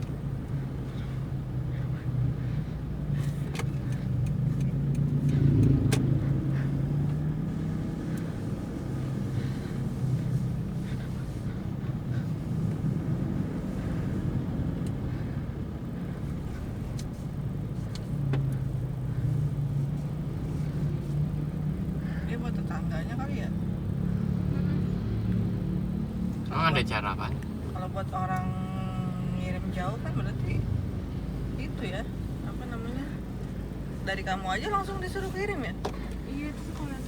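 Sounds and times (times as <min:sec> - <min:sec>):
car engine and road drone: 0:00.0 - 0:37.0.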